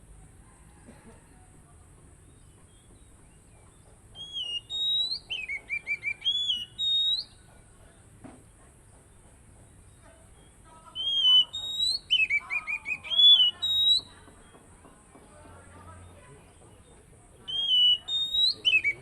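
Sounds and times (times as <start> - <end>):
magpie-robin singing: 2.2 - 15.0, 15.9 - 19.0.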